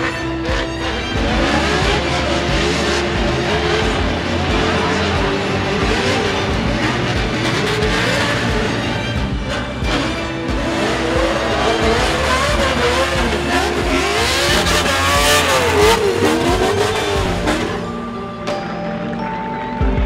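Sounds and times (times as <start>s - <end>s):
car engine revving: 0.0s - 19.1s
background music: 0.0s - 20.0s.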